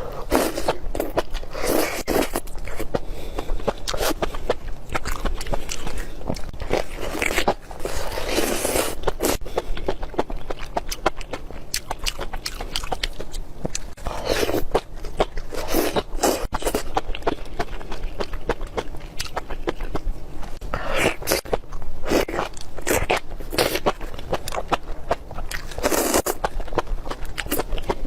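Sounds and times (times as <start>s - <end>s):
close-miked chewing: 0.0s - 28.0s.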